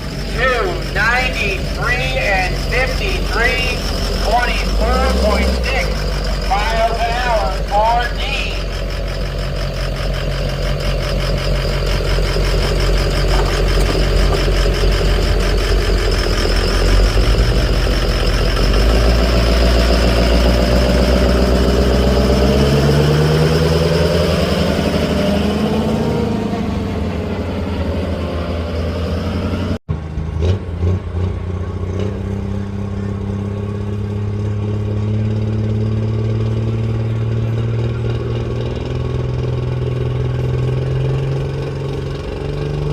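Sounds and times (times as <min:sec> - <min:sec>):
truck engine idling: 0:00.0 - 0:42.9
truck engine running hard: 0:00.0 - 0:42.9.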